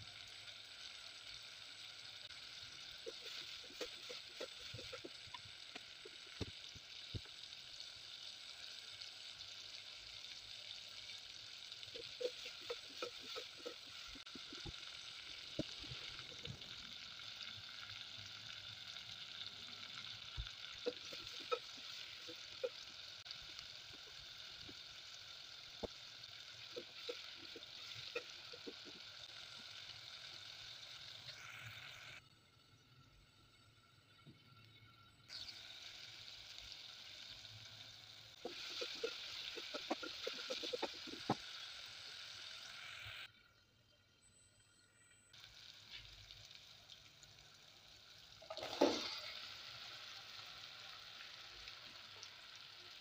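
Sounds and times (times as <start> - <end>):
masala sizzling and popping in oil: 0.0 - 53.0.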